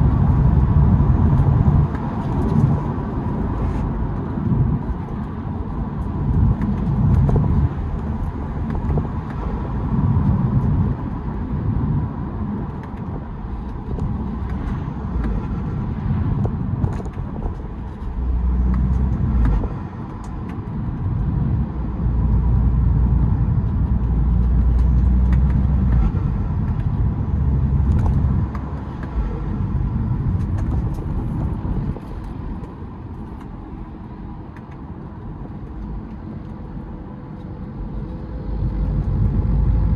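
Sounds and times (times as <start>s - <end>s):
diesel car engine accelerating: 0.0s - 33.4s, 35.3s - 39.9s.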